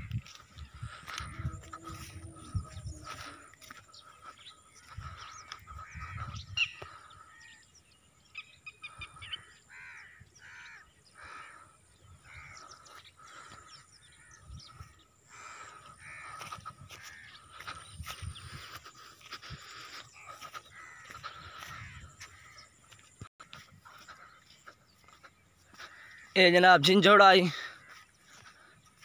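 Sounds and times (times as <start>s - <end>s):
crows cawing: 0.0s - 29.0s
small birds chirping: 0.0s - 29.0s.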